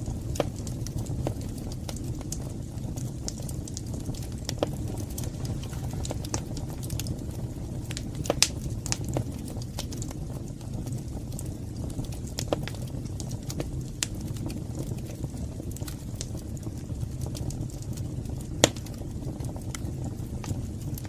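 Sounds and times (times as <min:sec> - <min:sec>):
fire crackling and popping: 0:00.0 - 0:21.0
flames rumbling: 0:00.0 - 0:21.0.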